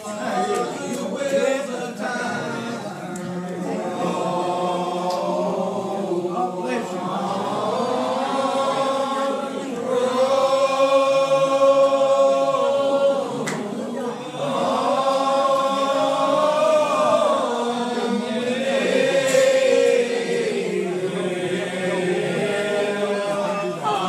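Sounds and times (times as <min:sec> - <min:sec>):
congregation singing a hymn: 0:00.0 - 0:24.0.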